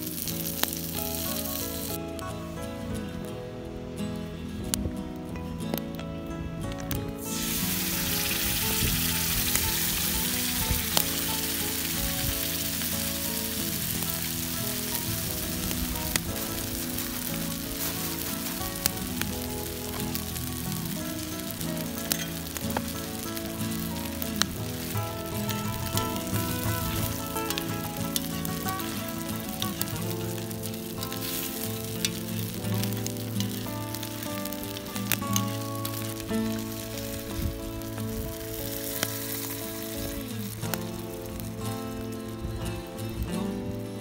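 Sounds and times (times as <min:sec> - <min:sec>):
food sizzling in a pan: 0:00.0 - 0:02.0, 0:07.2 - 0:44.0
sharp crackles: 0:00.0 - 0:44.0
soft background music: 0:00.0 - 0:44.0.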